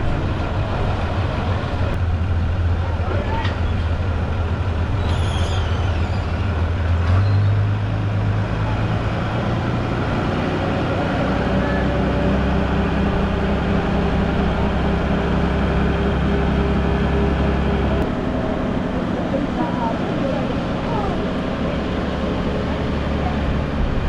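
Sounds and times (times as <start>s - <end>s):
heavy engine running: 0.0s - 24.0s.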